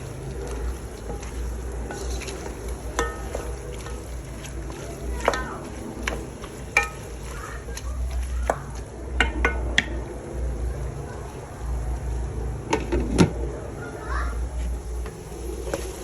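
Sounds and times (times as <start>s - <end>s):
metal utensil stirring in pot: 0.0s - 13.3s, 14.3s - 16.0s
steady low hum: 0.0s - 16.0s.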